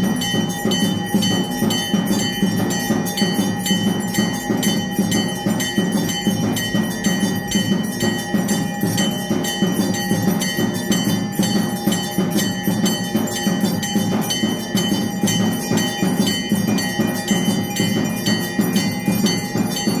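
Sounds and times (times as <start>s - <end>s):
fast percussion: 0.0s - 20.0s
temple bells ringing rapidly: 0.0s - 20.0s.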